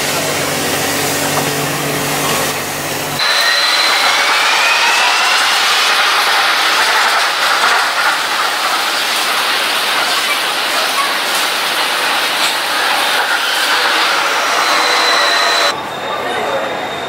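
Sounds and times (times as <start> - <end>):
electric train approaching: 0.1 - 17.0.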